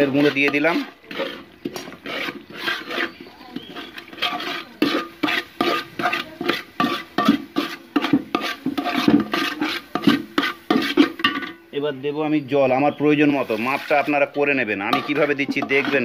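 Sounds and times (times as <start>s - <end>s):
spatula scraping metal pot: 0.0s - 11.7s, 13.2s - 16.0s.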